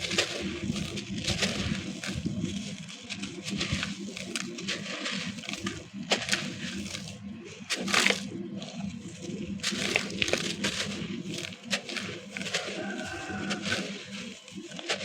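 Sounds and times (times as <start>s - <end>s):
concrete chunks crunching: 0.0s - 15.0s.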